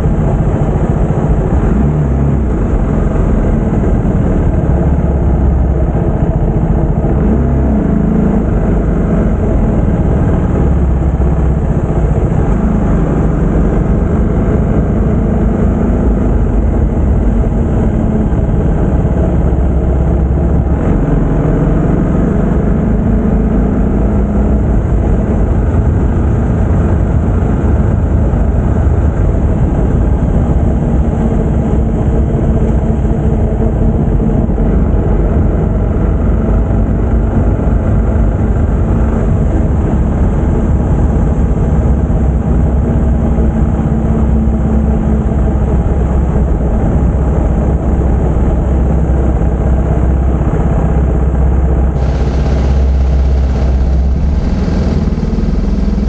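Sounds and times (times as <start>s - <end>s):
motorcycle engine running: 0.0s - 56.0s
steady rushing noise: 0.0s - 56.0s.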